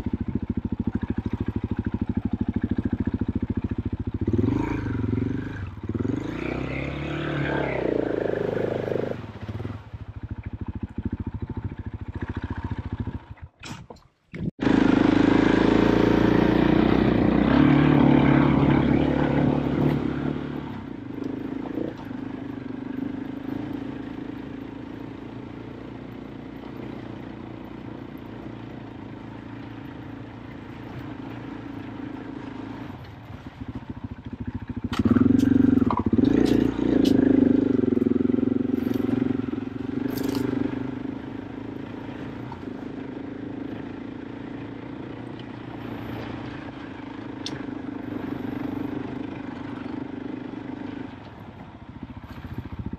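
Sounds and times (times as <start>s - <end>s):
dirt bike engine revving: 0.0s - 13.6s, 14.5s - 52.9s.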